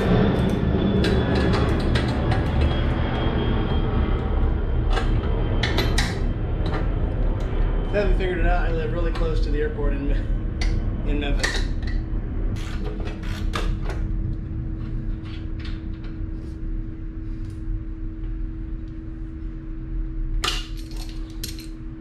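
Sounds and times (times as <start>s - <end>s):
aircraft rumble: 0.0s - 22.0s.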